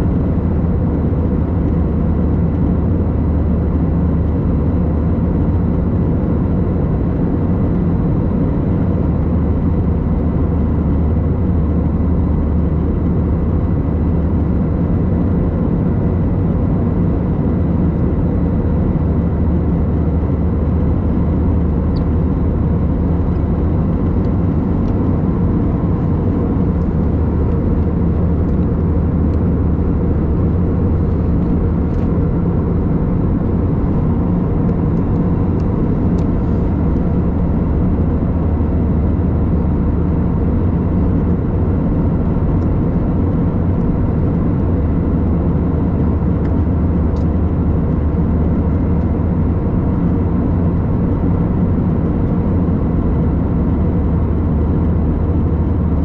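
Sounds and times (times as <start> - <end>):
airliner engine noise: 0.0 - 56.0.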